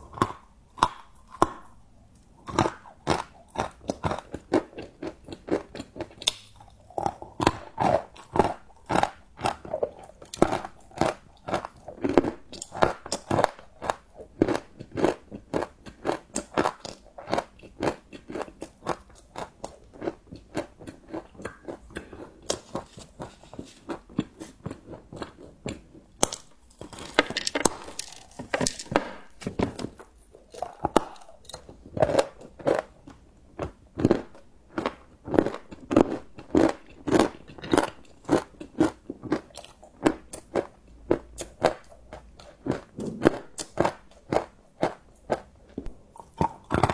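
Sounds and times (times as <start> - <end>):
chewing crunchy chocolate: 0.0 - 46.9.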